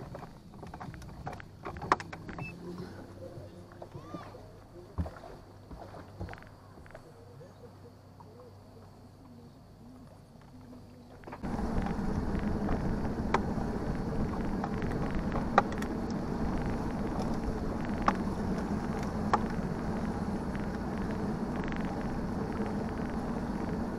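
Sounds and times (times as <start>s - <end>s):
boat motor running: 0.0s - 23.9s.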